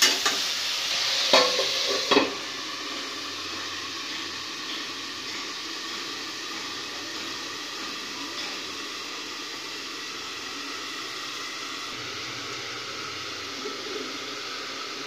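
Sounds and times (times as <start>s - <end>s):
food hissing in covered pan: 0.0s - 15.0s.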